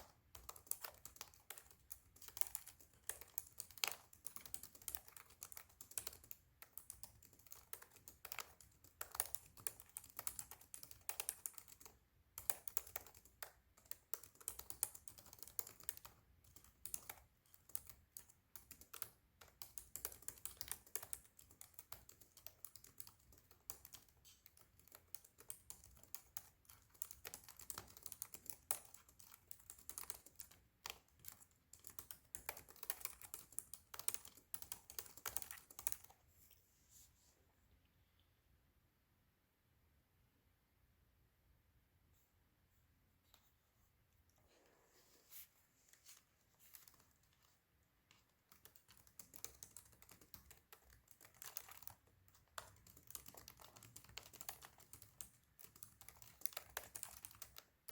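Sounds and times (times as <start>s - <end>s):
fast typing on laptop keyboard: 0.0s - 36.2s, 46.1s - 57.9s.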